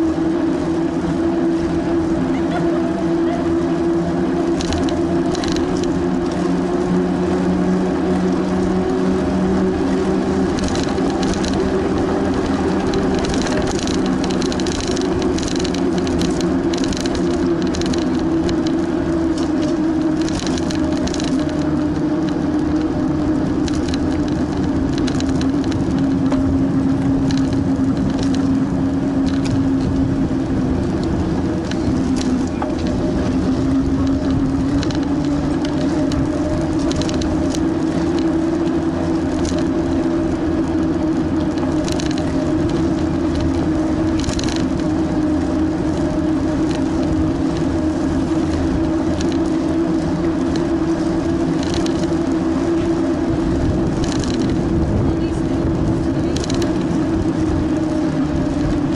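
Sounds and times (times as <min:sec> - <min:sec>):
bicycle tyre rumble on pavement: 0:00.0 - 0:58.9
light rattles and clicks: 0:00.7 - 0:58.9.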